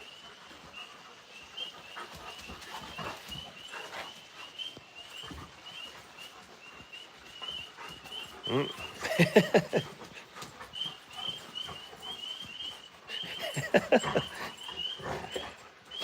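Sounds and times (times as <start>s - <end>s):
dogs making low vocal sounds: 0.0s - 16.0s.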